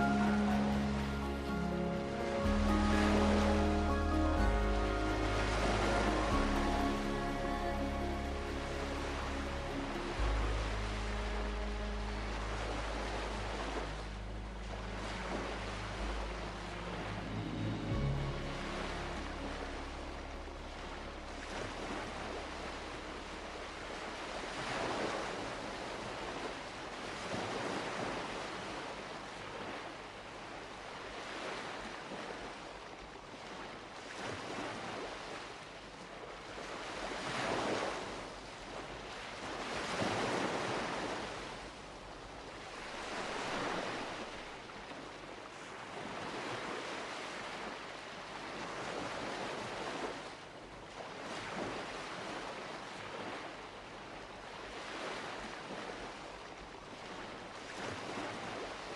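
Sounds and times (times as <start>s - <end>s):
sea waves breaking on shore: 0.0s - 58.9s.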